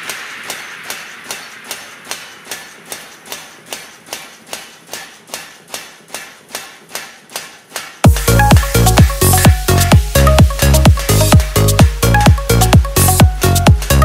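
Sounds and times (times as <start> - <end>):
power hammer striking steel: 0.0 - 14.0.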